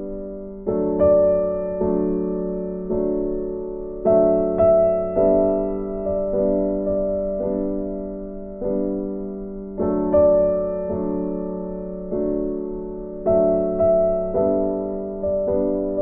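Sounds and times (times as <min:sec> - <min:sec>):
soft slow piano music: 0:00.0 - 0:16.0.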